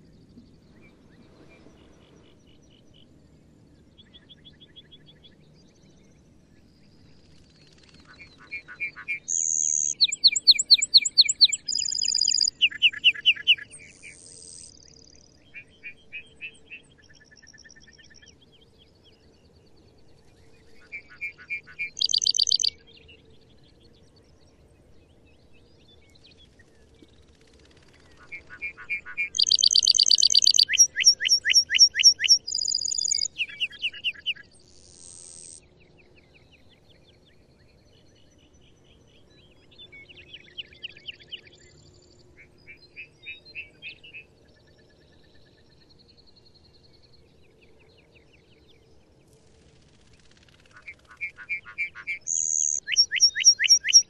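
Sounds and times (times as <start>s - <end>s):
bird singing buzzy trills: 0.0s - 23.8s, 24.4s - 49.2s, 49.9s - 54.0s.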